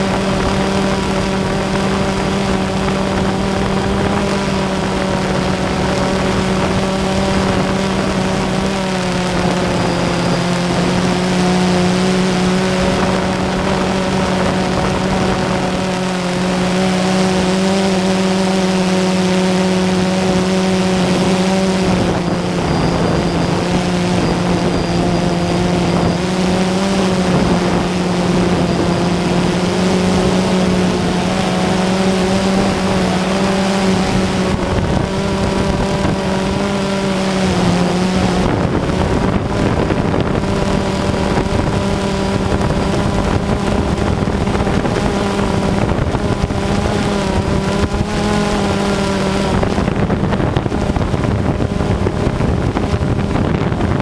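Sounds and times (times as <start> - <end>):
drone propellers whining: 0.0 - 54.0
wind on microphone: 0.0 - 54.0.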